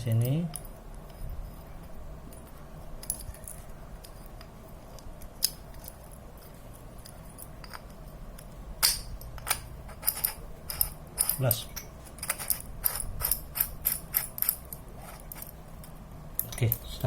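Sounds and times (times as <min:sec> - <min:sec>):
metal parts clicking and clinking: 0:00.0 - 0:17.0.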